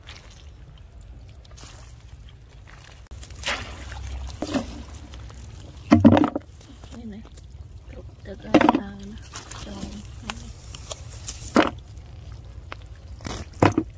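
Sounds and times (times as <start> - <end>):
muddy water sloshing and splashing: 0.0 - 13.9
steady low rumble: 0.0 - 13.9.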